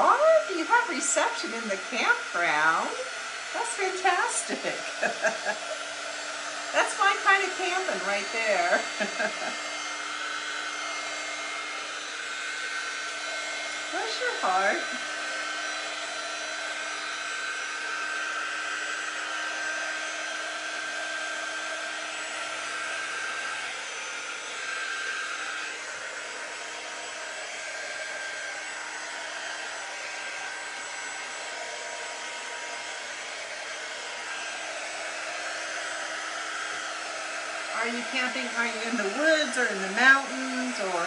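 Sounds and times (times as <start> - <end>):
heat tool blowing: 0.0 - 41.0.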